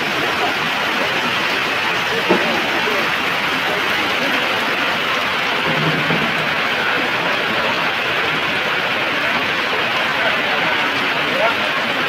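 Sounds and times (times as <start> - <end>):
heavy rain on metal roof: 0.0 - 12.0.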